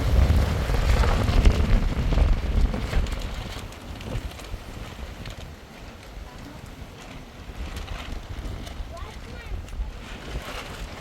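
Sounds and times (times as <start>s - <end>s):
crackles: 0.0s - 11.0s
strong wind gusting against microphone: 0.0s - 11.0s.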